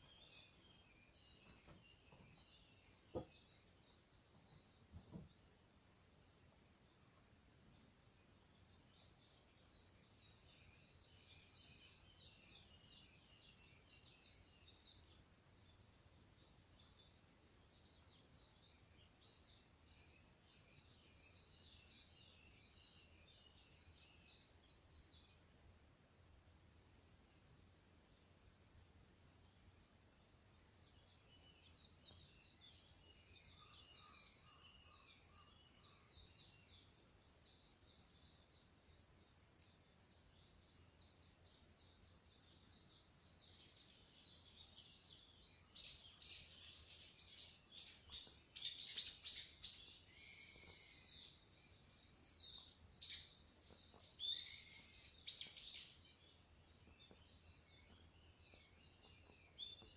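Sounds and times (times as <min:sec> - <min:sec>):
wild birds chirping: 0:00.0 - 0:59.9.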